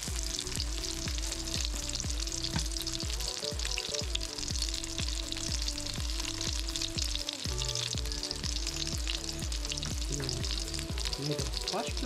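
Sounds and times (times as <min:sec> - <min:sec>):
music with bass beat: 0:00.0 - 0:12.0
oil sizzling in a wok: 0:00.0 - 0:12.0.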